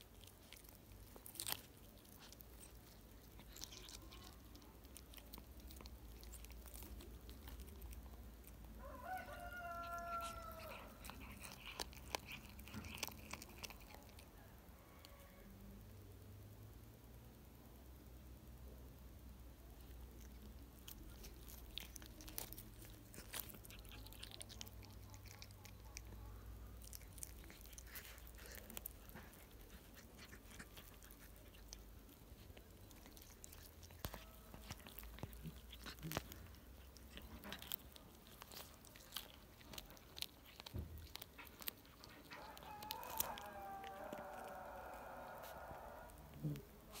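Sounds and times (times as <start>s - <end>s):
cat chewing and crunching bones: 0.0s - 47.0s.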